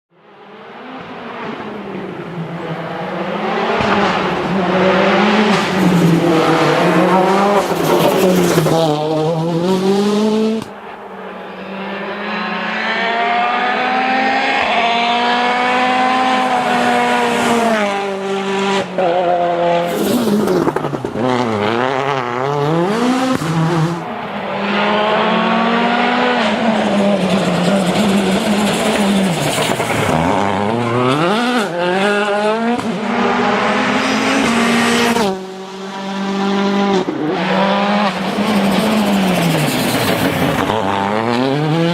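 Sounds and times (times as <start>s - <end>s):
rally car engine revving hard: 1.0s - 10.7s, 11.5s - 41.9s.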